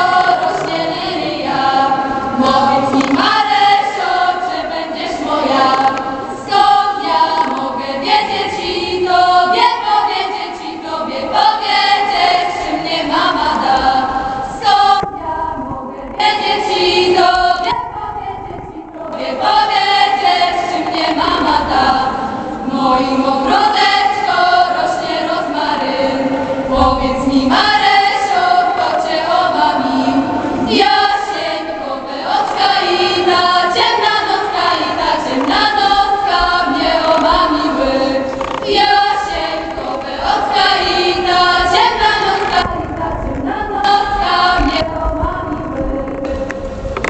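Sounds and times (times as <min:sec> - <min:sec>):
women's choir singing a cappella: 0:00.0 - 0:47.0.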